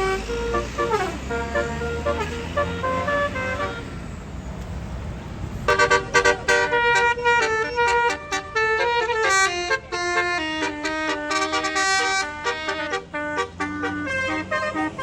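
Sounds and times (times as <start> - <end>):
musical bus horn tooting melody: 0.0 - 4.2, 5.7 - 15.0
bus engine rumble: 0.0 - 15.0.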